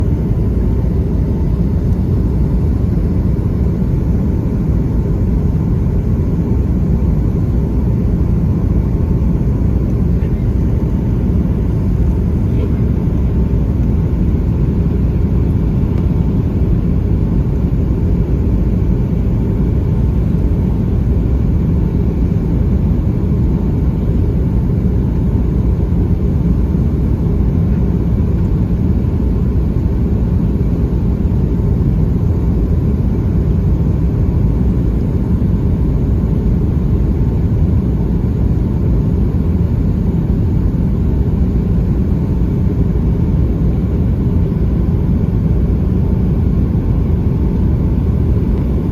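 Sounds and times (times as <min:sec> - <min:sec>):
airplane cabin rumble: 0:00.0 - 0:48.9.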